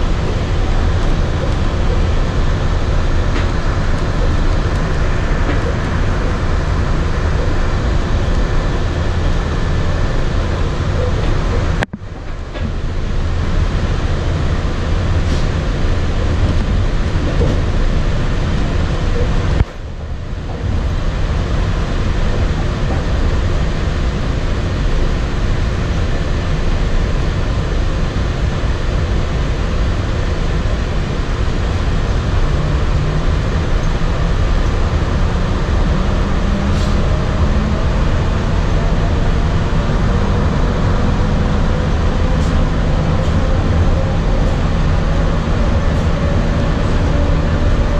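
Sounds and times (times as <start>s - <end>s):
train low rumble: 0.0s - 47.9s.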